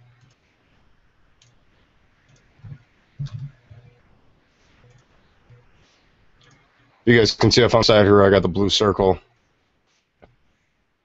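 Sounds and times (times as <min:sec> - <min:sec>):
small faint sounds: 0:00.0 - 0:11.0.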